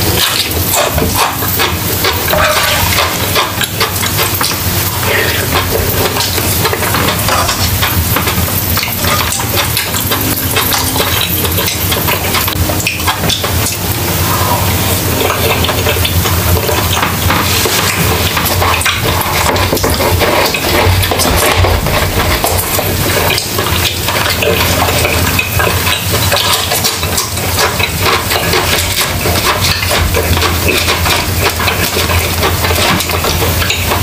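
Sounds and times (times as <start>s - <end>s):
wet chewing: 0.0s - 34.0s.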